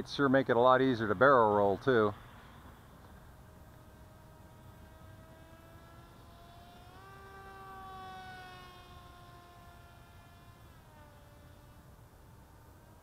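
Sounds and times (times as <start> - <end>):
model plane motor buzzing whine: 1.1 - 13.0.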